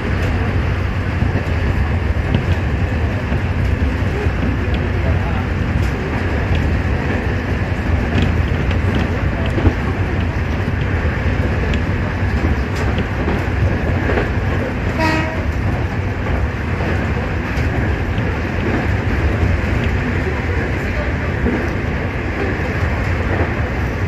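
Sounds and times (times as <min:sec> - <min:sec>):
rail joint clicks: 0:00.0 - 0:24.0
train wheels rumbling on rail: 0:00.0 - 0:24.0.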